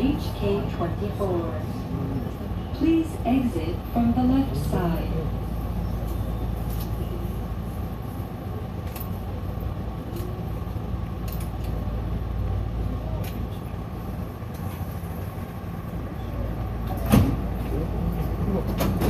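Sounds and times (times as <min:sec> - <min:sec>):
constant hum: 0:00.0 - 0:19.0
train low rumble: 0:00.0 - 0:19.0.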